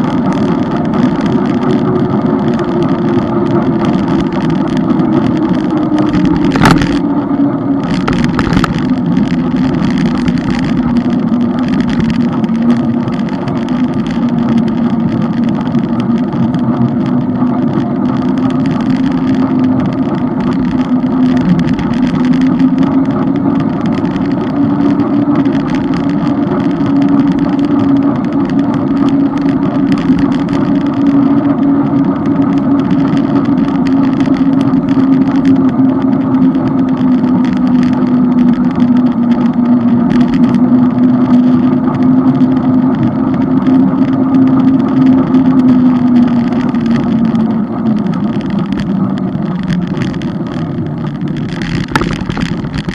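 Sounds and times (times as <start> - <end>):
engine drone: 0.0 - 52.9
wind and road noise: 0.0 - 52.9.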